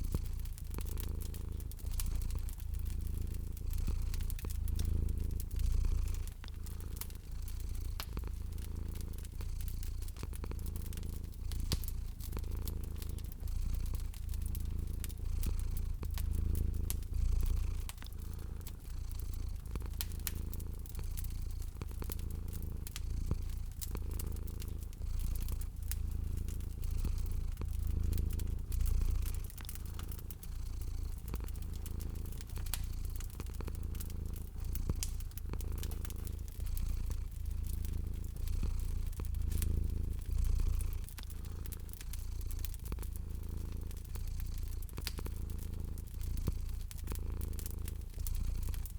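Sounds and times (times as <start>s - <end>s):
cat purring: 0.0s - 48.9s
fireplace fire crackling: 0.0s - 48.9s.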